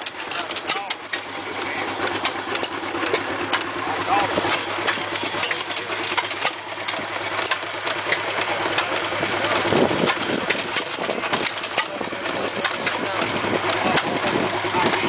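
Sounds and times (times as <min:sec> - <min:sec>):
engine firing stroke: 0:00.0 - 0:15.0
gas engine running: 0:00.0 - 0:15.0
rapid mechanical clicking: 0:00.0 - 0:15.0.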